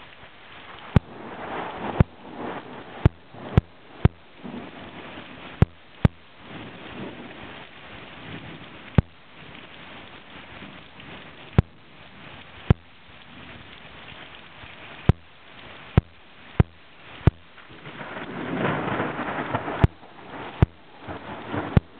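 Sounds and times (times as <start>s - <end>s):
rain and wind hiss: 0.0s - 21.9s.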